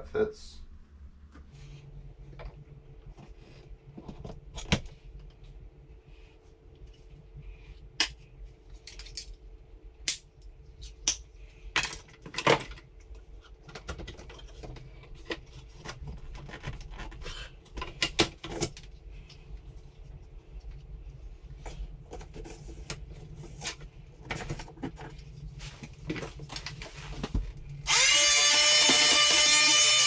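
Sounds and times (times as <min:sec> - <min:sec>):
steady low hum: 0:00.0 - 0:28.5.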